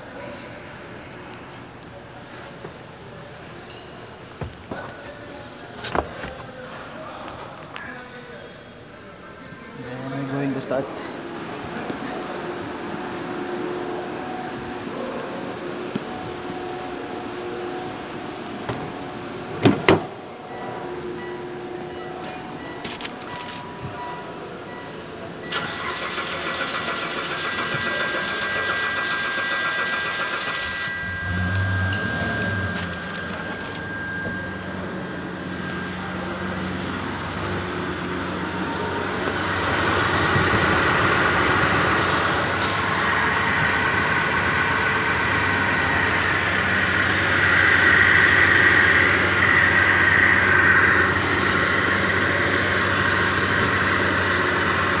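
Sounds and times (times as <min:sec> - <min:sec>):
car engine cranking and idling: 0:10.2 - 0:55.0.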